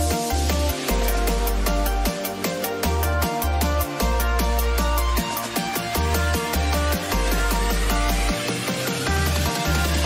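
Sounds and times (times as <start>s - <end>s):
electronic music with bass: 0.0s - 10.0s.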